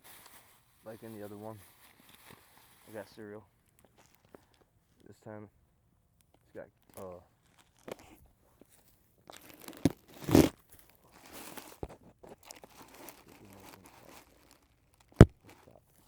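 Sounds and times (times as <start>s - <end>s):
plastic packaging crinkling: 0.0s - 4.6s, 6.8s - 8.2s, 8.8s - 16.0s.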